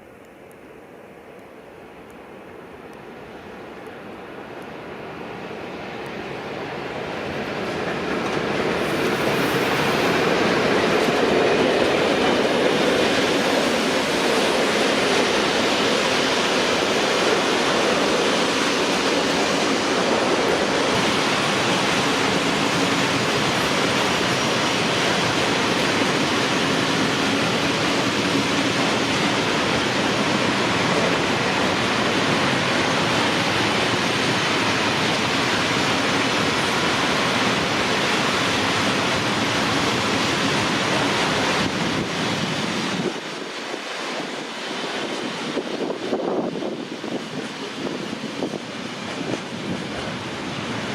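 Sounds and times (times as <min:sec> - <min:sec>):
train wheels rolling on rails: 0:00.0 - 0:50.9.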